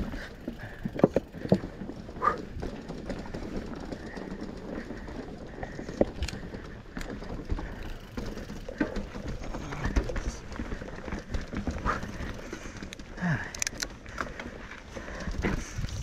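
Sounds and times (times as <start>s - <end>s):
bike knocking and rattling: 0.0s - 16.0s
bike tyres rolling on dirt: 0.0s - 16.0s.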